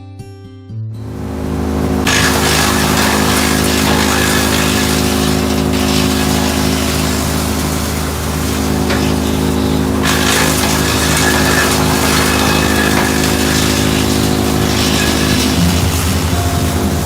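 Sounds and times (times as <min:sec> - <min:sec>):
deep pulsing: 0:01.0 - 0:17.0
tractor engine drone: 0:01.0 - 0:17.0
wood chipper chipping wood: 0:01.0 - 0:17.0.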